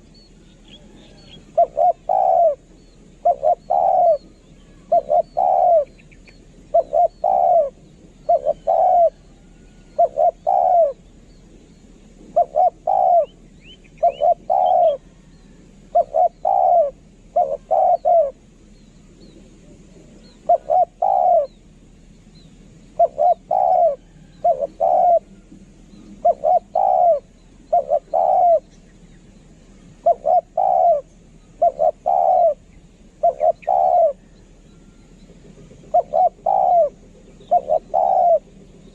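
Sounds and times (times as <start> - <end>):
dove cooing: 0.0 - 11.0, 12.2 - 18.5, 19.9 - 21.6, 22.9 - 38.9
small birds chirping: 0.0 - 38.9.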